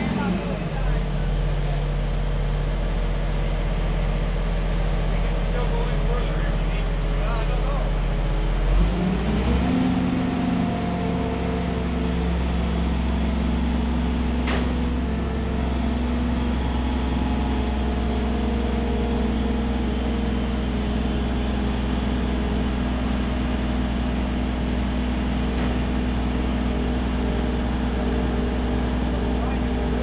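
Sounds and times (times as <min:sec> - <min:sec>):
crane engine humming: 0:00.0 - 0:30.0.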